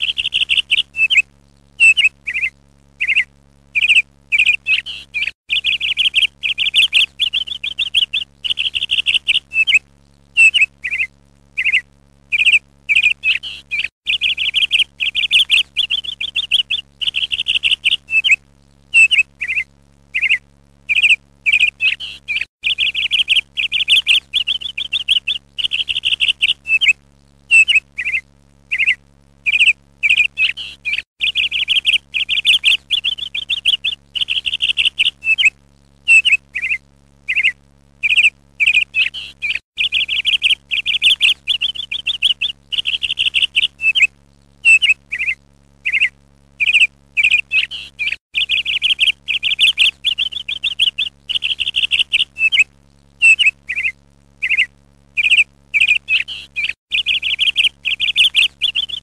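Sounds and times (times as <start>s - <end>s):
songbird chirping and trilling: 0.0s - 9.8s, 10.4s - 59.0s
faint low hum: 0.0s - 59.0s.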